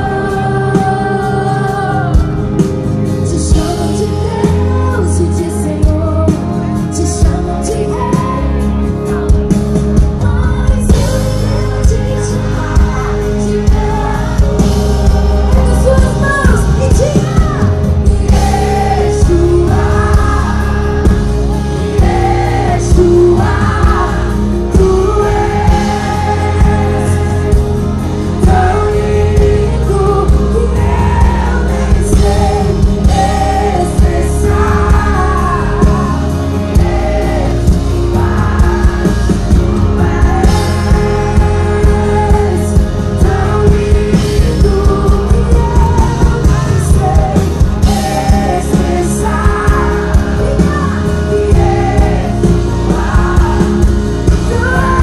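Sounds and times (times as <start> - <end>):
lead singer's voice: 0.0 - 55.0
live band playing: 0.0 - 55.0.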